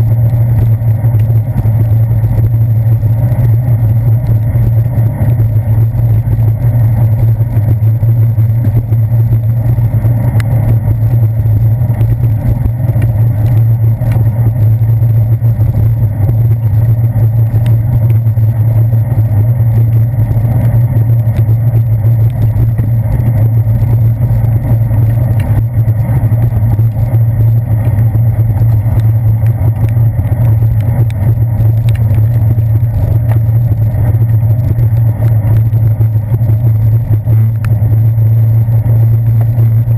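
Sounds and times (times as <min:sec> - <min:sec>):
wind and road rumble: 0:00.0 - 0:39.9
raindrops ticking on camera housing: 0:00.1 - 0:39.9.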